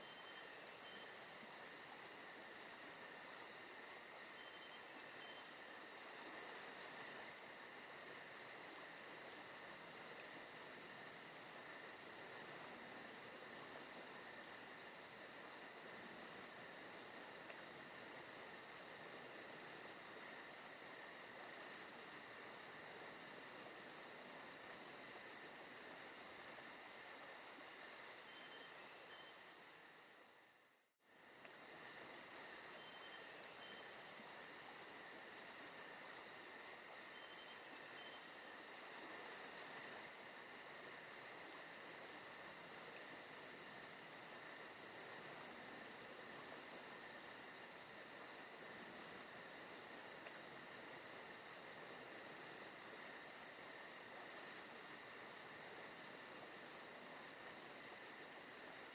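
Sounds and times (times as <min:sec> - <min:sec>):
crickets and insects trilling: 0:00.0 - 0:30.5, 0:31.1 - 0:58.9.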